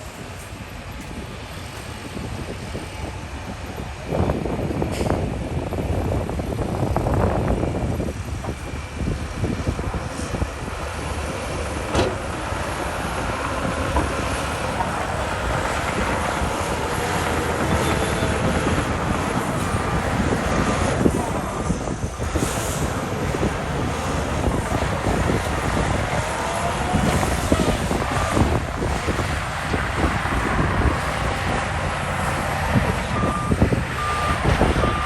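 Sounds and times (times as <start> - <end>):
bulldozer diesel engine working: 0.0 - 35.0.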